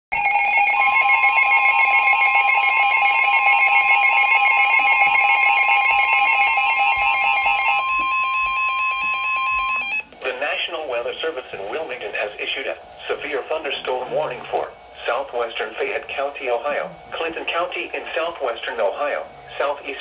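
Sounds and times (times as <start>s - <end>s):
steady alarm tone: 0.1s - 20.0s
rapidly pulsing alarm beeps: 0.2s - 20.0s.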